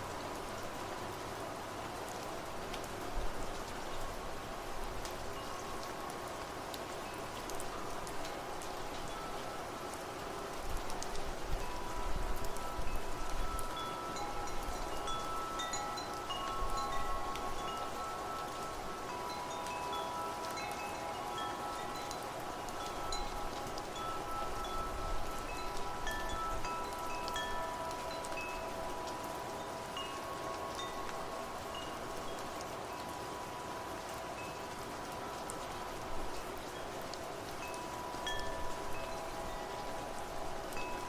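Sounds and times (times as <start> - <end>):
rain hiss: 0.0 - 41.0
wind chimes ringing: 5.3 - 41.0.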